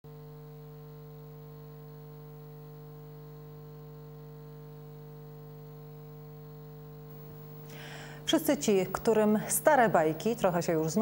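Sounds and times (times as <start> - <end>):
electrical mains hum: 0.1 - 11.0.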